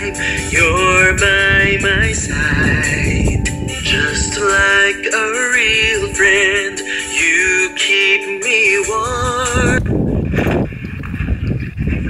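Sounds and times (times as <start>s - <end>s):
rough low radio noise: 0.0s - 12.0s.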